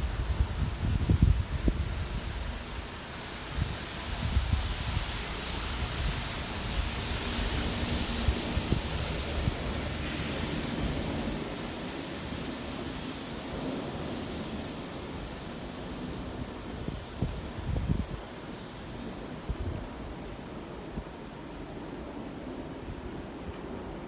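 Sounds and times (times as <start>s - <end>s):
rain hissing on street: 0.0s - 24.0s
wind buffeting microphone: 0.0s - 24.0s.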